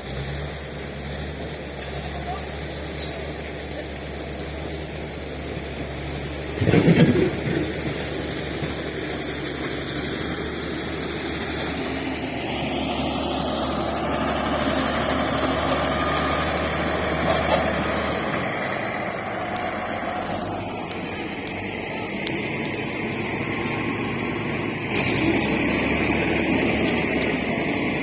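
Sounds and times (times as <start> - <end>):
bulldozer diesel engine running: 0.0 - 28.0
high engine whine: 0.0 - 28.0.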